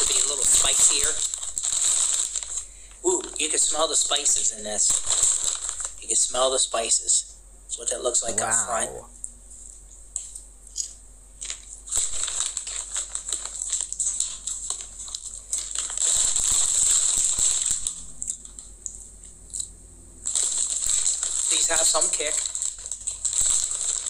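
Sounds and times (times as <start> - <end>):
popcorn being chewed: 0.0 - 6.5, 8.3 - 24.0
popcorn bag crinkling: 0.0 - 7.2, 9.6 - 24.0.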